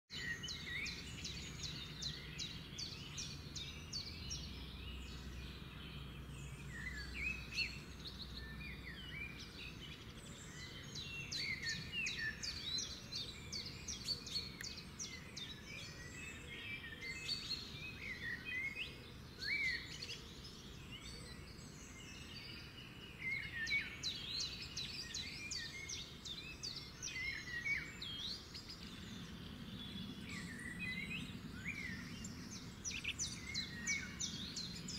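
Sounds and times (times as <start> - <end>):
songbirds chirping: 0.1 - 34.9.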